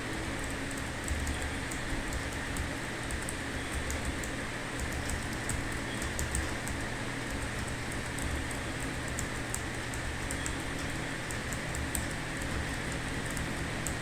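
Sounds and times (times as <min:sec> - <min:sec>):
background hum and hiss: 0:00.0 - 0:14.0
keyboard typing clicks: 0:00.4 - 0:14.0.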